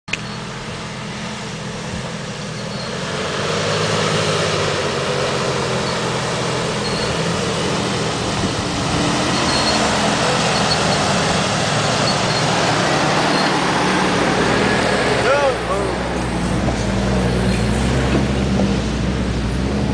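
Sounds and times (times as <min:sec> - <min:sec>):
car engine running: 0:00.1 - 0:19.9
broad rushing noise: 0:02.9 - 0:19.9.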